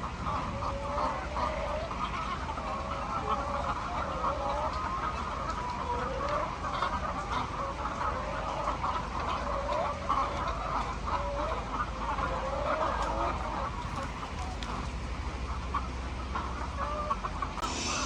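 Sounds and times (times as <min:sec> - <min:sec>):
chickens clucking and calling: 0:00.0 - 0:18.0
steady low hum: 0:00.0 - 0:18.0.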